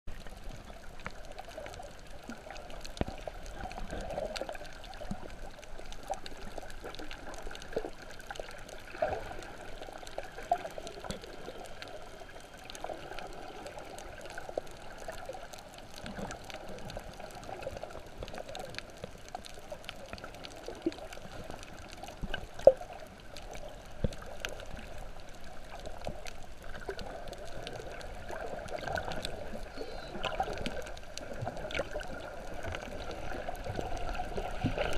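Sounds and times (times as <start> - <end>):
muffled underwater noise: 0.1 - 34.9
small clicks and crackles: 0.1 - 34.9.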